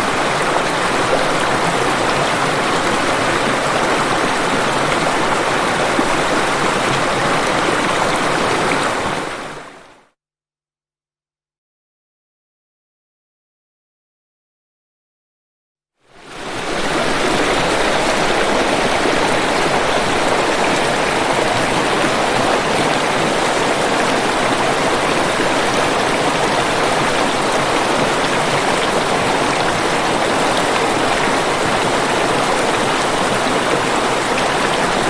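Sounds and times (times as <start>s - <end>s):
waterfall rushing: 0.0s - 9.9s, 16.1s - 35.0s.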